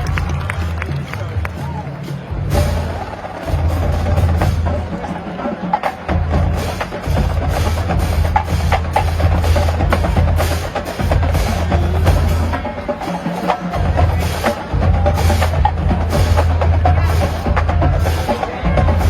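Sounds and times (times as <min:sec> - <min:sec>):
marching band playing: 0:00.0 - 0:19.0.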